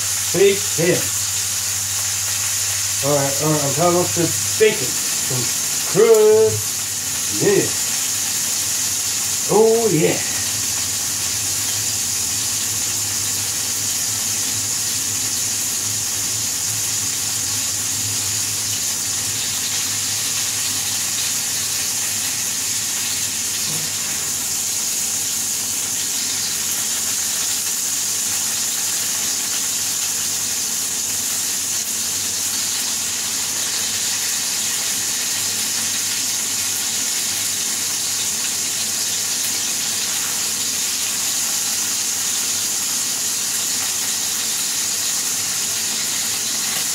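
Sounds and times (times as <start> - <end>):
burger patties sizzling in a pan: 0.0 - 46.9.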